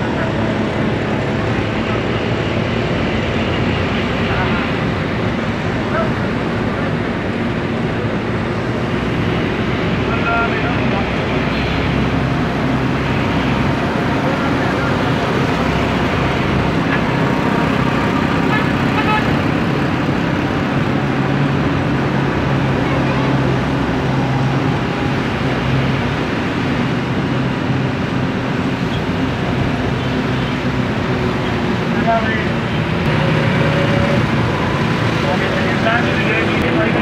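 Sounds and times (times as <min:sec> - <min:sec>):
road noise on wet road: 0:00.0 - 0:37.0
vehicle engine drone: 0:00.0 - 0:37.0.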